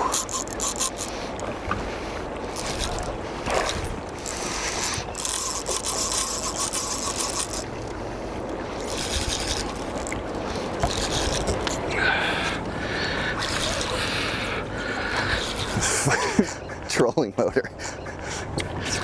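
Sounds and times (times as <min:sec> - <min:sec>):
water sloshing around boat: 0:00.0 - 0:19.0.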